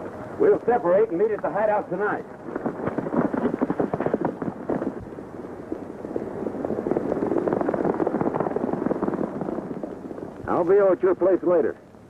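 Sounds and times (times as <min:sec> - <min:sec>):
horses galloping hoofbeats: 0:00.4 - 0:11.1.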